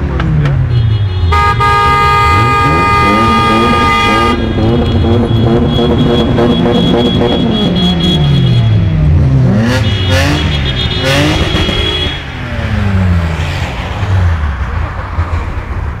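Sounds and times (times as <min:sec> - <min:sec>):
road noise in traffic: 0:00.0 - 0:16.0
car engine revving: 0:01.6 - 0:15.2.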